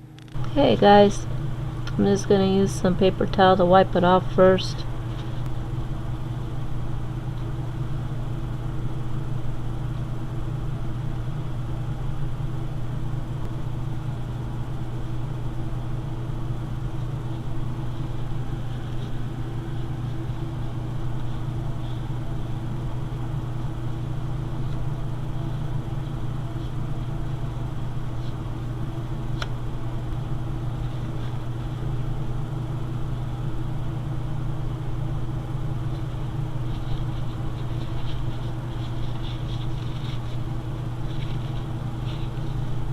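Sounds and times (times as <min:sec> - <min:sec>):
low motor hum: 0:00.0 - 0:42.9.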